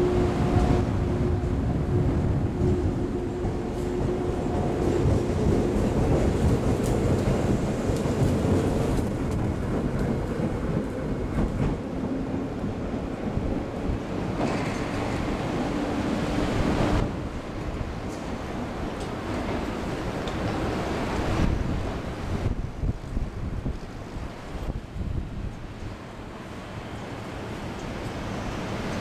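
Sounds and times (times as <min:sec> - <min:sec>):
wind buffeting microphone: 0:00.0 - 0:26.0
train rumbling on tracks: 0:00.0 - 0:29.0.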